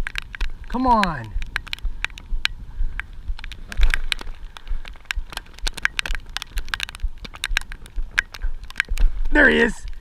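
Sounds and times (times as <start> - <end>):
low bumps: 0.0 - 10.0
raindrops ticking on microphone: 0.0 - 10.0.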